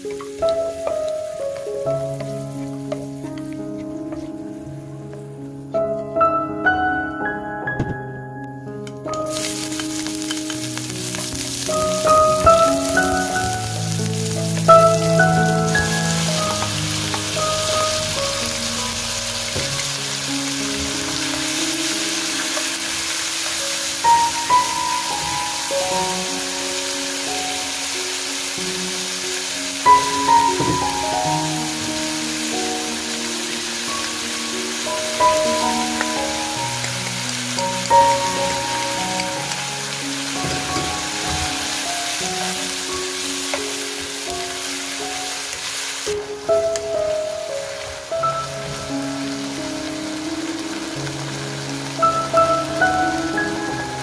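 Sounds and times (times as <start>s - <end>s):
food sizzling in hot oil: 0.0s - 4.2s, 9.2s - 54.0s
soft background music: 0.0s - 54.0s.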